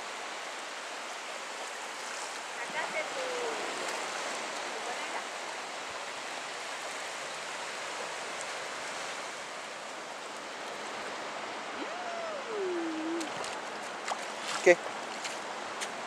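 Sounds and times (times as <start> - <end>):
small waves at shoreline: 0.0 - 16.0.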